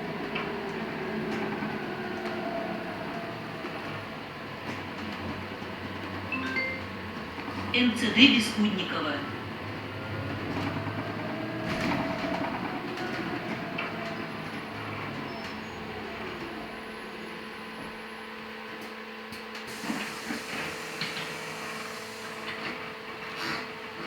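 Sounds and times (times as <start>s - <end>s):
electric bus hum and whine: 0.0s - 24.0s.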